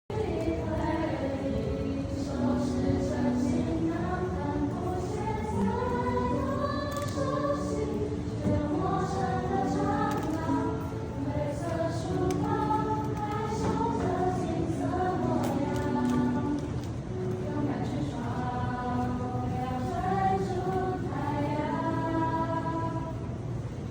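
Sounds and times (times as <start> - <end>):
choir singing: 0.1 - 23.9.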